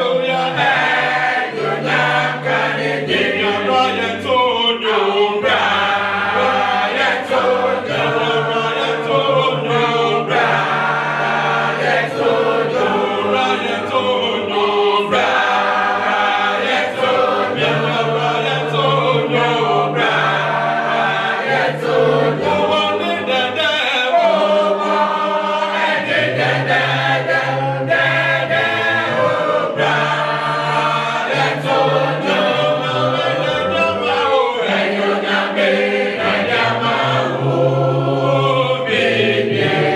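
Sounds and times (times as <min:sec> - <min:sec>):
choir singing a hymn a cappella: 0:00.0 - 0:39.9.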